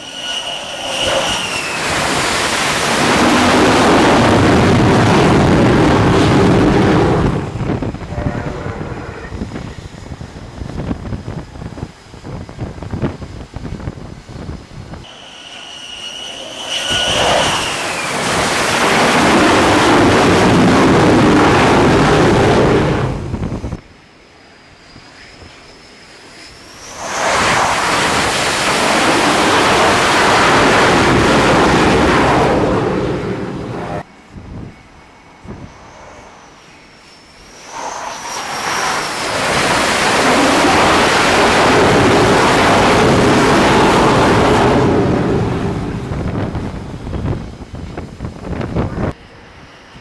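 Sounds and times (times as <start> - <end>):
wind noise on microphone: 0.0 - 15.1, 16.0 - 23.9, 26.5 - 36.6, 37.3 - 50.0
jet engines blasting: 0.0 - 50.0.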